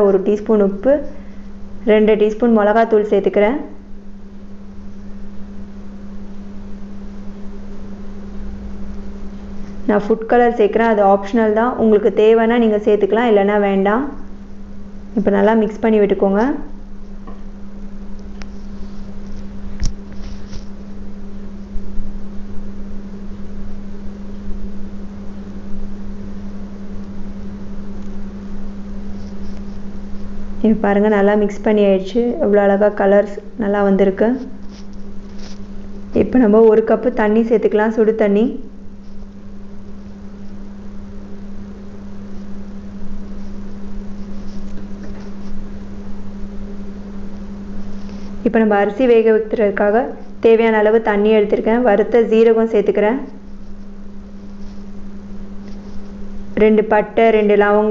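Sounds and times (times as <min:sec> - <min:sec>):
steady hum: 0:00.0 - 0:57.9.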